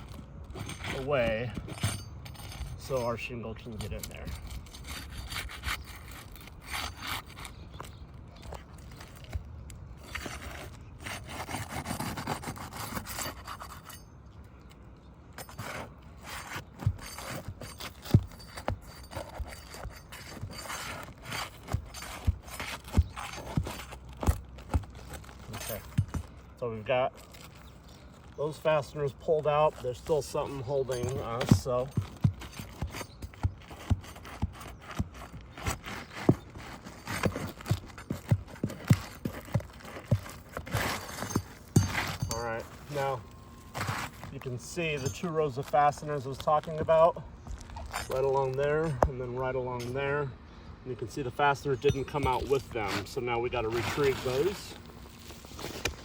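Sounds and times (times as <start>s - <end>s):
pry bar scraping under shingles: 0.0s - 50.4s, 51.0s - 56.0s.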